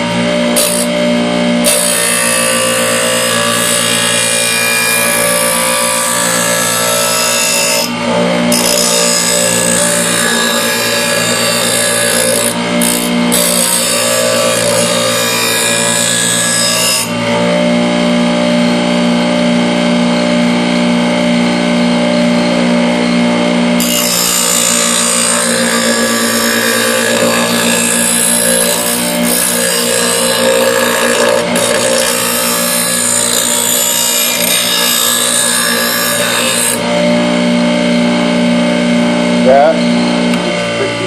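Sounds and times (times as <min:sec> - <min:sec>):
power grinder grinding steel: 0:00.0 - 0:41.0.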